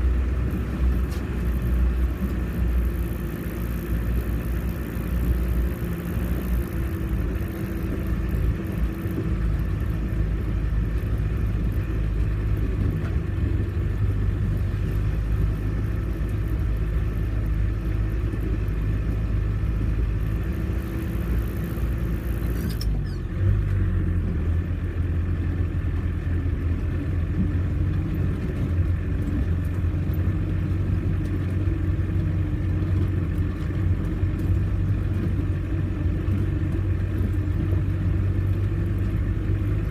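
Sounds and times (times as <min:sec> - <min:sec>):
off-road vehicle engine drone: 0:00.0 - 0:39.9.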